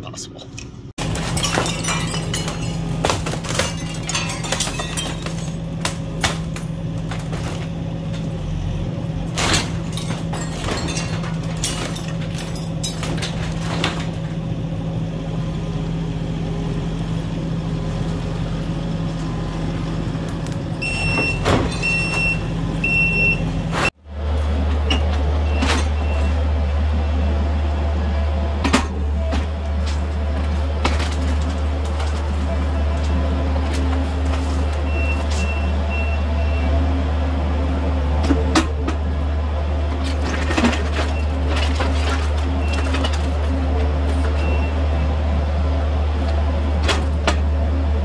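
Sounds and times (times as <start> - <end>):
deep engine rumble: 0.0 - 48.0
diesel engine running: 0.1 - 48.0.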